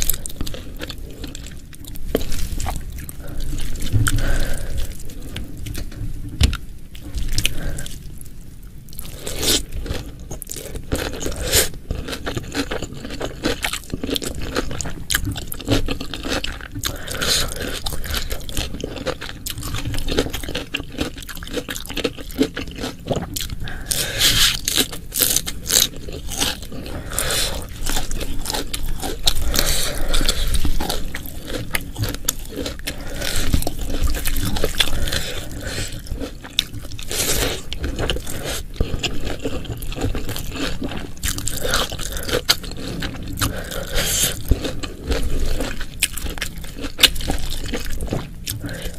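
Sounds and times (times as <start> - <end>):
wet chewing and crunching: 0.0 - 8.2, 8.9 - 48.9.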